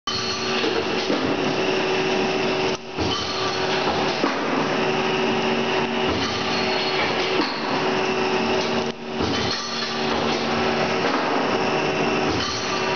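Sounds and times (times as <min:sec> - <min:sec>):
machine spindles humming: 0:00.1 - 0:12.9.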